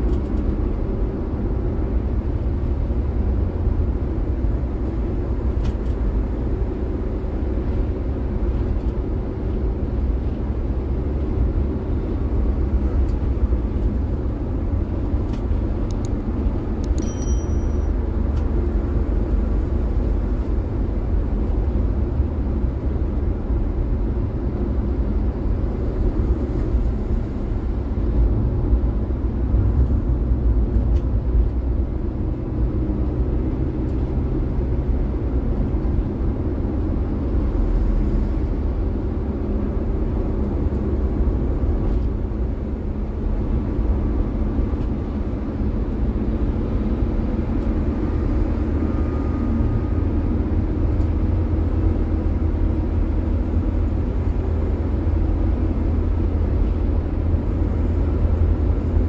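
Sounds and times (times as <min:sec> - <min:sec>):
van engine and road rumble: 0:00.0 - 0:59.0.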